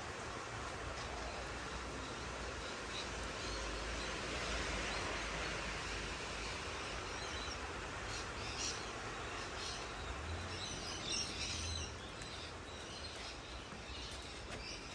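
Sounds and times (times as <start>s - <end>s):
birds chirping: 0.0s - 14.9s
steady rain falling: 0.0s - 14.9s.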